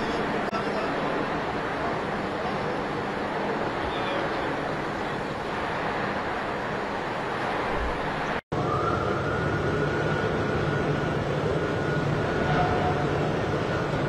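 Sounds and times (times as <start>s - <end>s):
high crane whine: 0.0s - 14.0s
steel plant machinery din: 0.0s - 14.0s.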